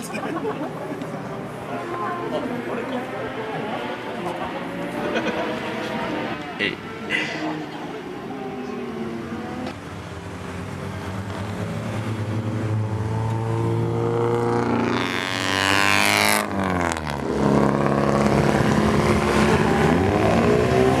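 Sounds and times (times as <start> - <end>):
race cars driving past: 0.0 - 21.0
race car passing close at speed: 0.3 - 21.0.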